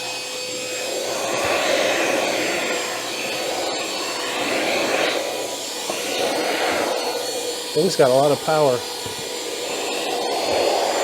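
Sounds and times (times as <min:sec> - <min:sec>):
handheld vacuum running: 0:00.0 - 0:11.0.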